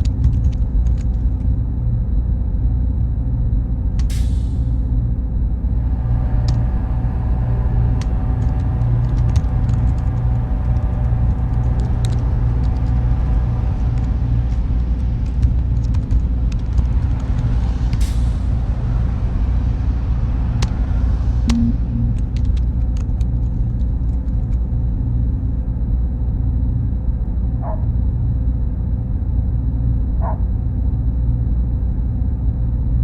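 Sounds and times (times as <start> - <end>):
faint hum: 0.0 - 33.0
low mechanical rumble: 0.0 - 33.0.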